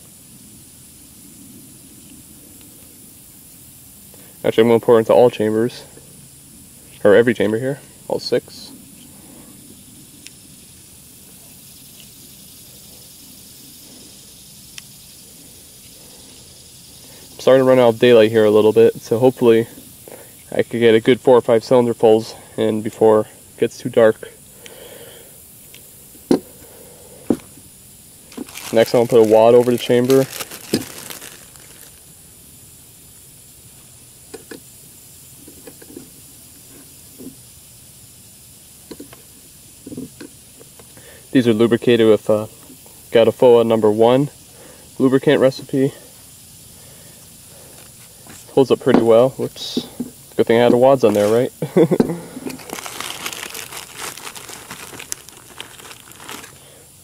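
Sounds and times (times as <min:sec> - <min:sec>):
faint outdoor hiss: 0:00.0 - 0:57.0.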